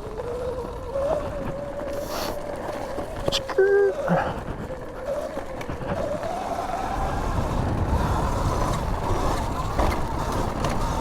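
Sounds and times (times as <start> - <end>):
electric dirt bike motor whining: 0.0 - 11.0
wind rumble on microphone: 0.0 - 11.0.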